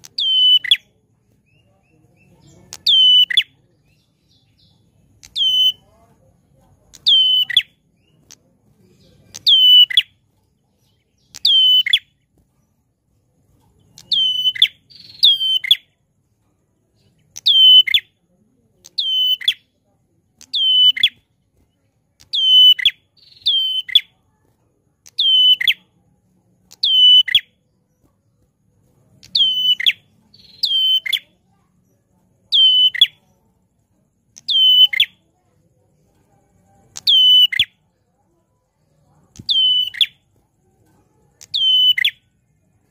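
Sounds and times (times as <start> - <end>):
caged bird calling: 0.0 - 12.7, 13.5 - 16.0, 17.0 - 18.2, 18.8 - 19.7, 20.4 - 21.6, 22.2 - 31.8, 32.4 - 33.4, 34.3 - 35.3, 36.8 - 38.0, 38.7 - 42.9.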